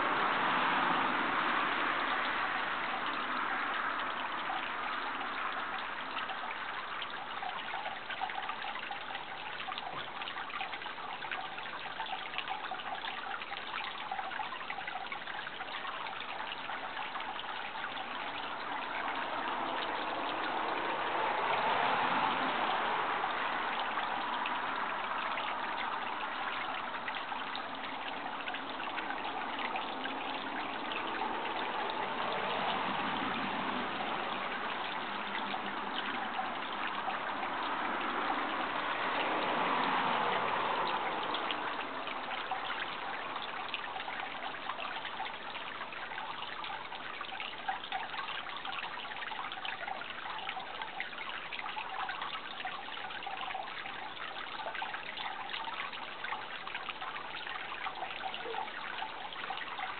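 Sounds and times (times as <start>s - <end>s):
water running and trickling: 0.0s - 59.9s.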